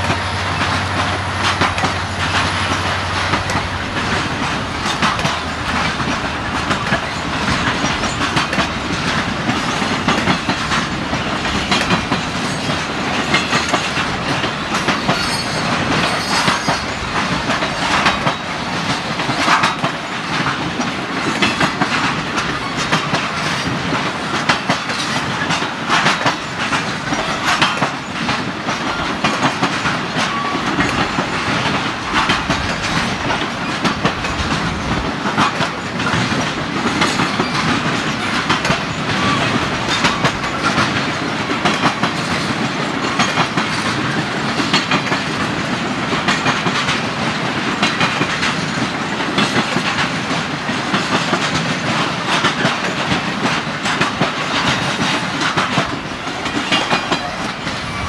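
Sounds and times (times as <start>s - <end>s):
freight train wheels rumbling: 0.0s - 58.0s
wheels clicking over rail joints: 0.0s - 58.0s.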